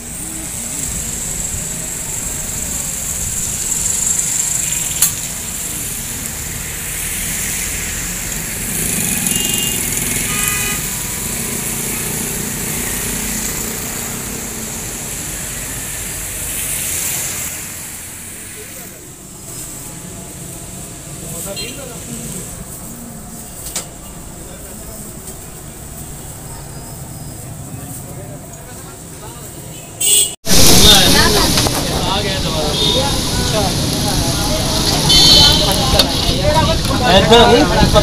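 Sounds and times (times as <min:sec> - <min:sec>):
traffic on wet road: 0:00.0 - 0:38.0.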